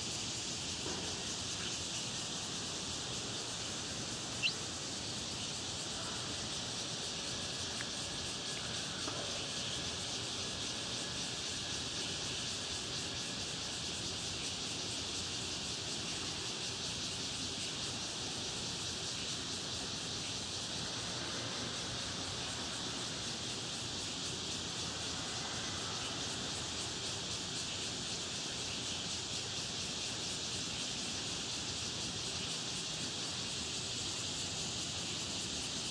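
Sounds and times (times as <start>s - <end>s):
steady high-pitched hiss: 0.0s - 35.9s.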